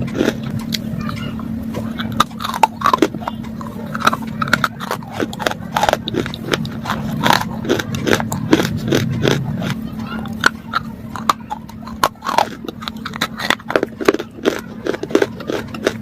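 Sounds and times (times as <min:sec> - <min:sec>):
person chewing crunchy food: 0:00.0 - 0:16.0
steady low hum: 0:00.0 - 0:16.0.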